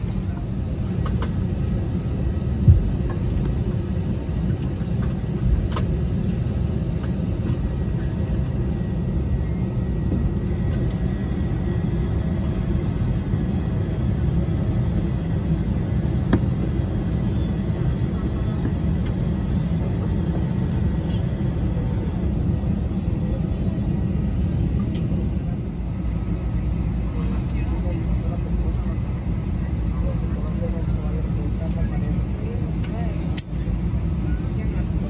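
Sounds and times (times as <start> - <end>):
aircraft cabin air-conditioning rumble: 0.0 - 35.0.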